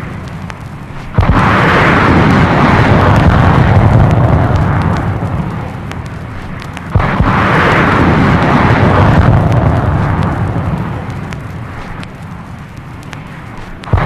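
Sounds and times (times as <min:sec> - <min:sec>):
large explosions rumbling: 0:00.0 - 0:14.0.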